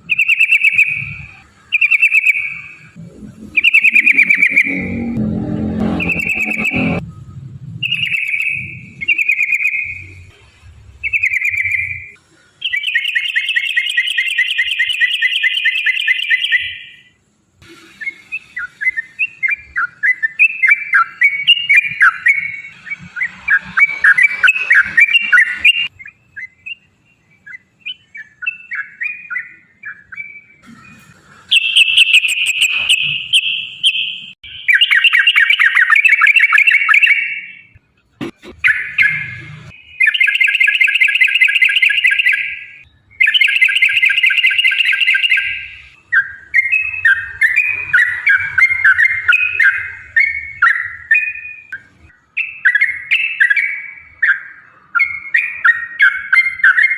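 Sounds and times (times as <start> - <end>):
bird singing with trills: 0.0 - 7.0, 7.8 - 10.3, 11.0 - 17.2, 18.0 - 37.8, 38.6 - 56.9.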